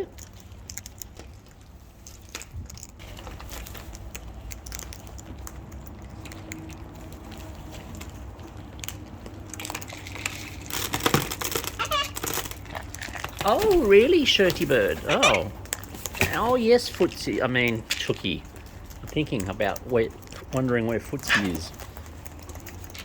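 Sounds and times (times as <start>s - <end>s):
birds crunching seed: 0.0s - 23.0s.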